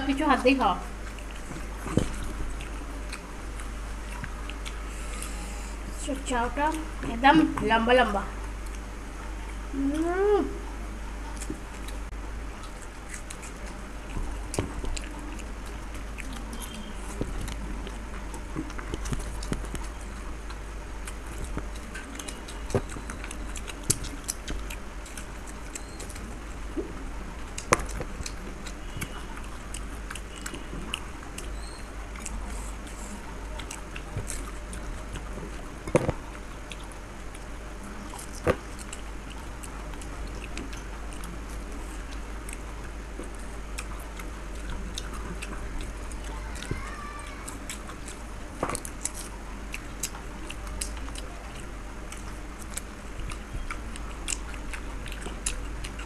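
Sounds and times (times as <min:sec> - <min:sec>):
steady low hum: 0:00.0 - 0:56.0
person chewing food: 0:00.6 - 0:07.6, 0:08.4 - 0:56.0.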